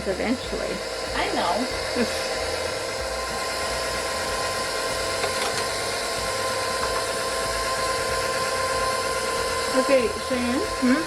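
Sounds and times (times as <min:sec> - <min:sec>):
small appliance motor humming: 0:00.0 - 0:11.0.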